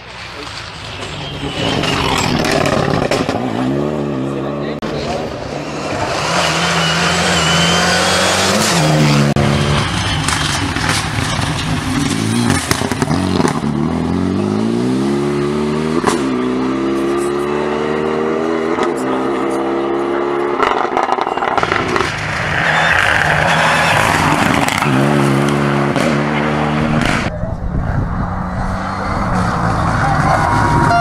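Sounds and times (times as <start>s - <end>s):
car engine accelerating hard: 1.3s - 31.0s.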